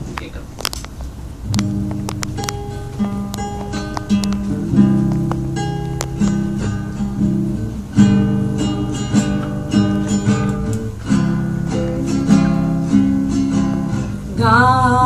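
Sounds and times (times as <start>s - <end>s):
acoustic guitar strumming chords: 0.9s - 15.0s.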